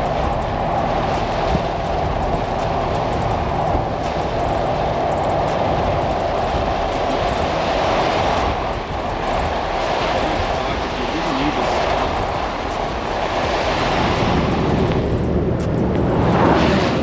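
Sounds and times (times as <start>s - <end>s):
car driving at highway speed: 0.0s - 17.0s.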